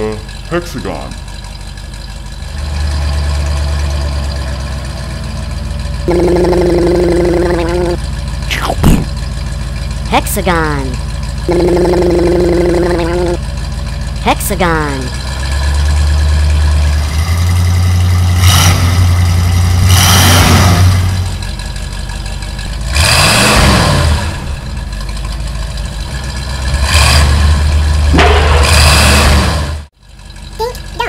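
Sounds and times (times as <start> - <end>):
truck engine rumbling and revving: 0.0 - 31.0.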